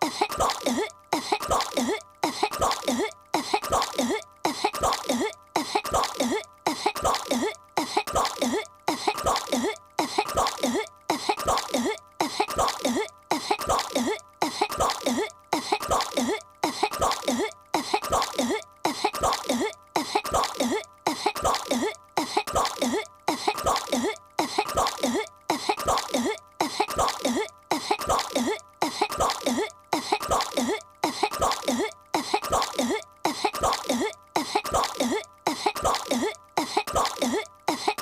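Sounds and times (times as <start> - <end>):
cartoon girl coughing: 0.0 - 38.0.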